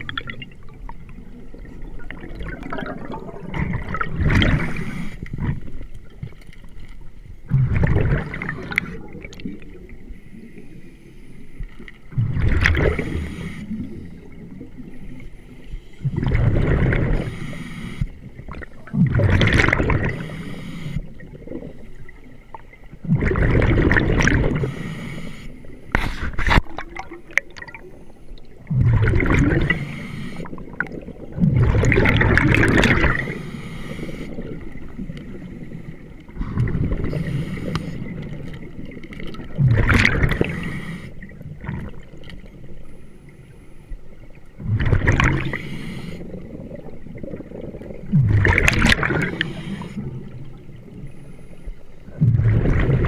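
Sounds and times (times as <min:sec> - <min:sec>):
exhaled bubbles gurgling underwater: 0:00.0 - 0:53.0.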